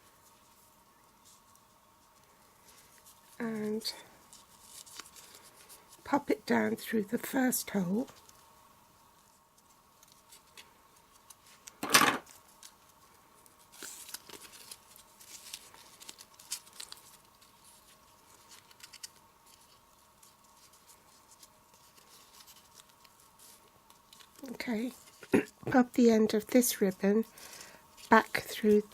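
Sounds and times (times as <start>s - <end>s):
ribbon rustling through paper: 0.0s - 25.3s, 26.1s - 28.9s.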